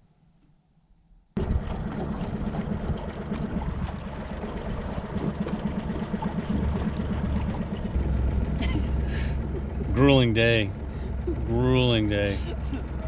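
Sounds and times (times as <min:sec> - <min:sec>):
outboard motor droning: 0:01.4 - 0:13.0.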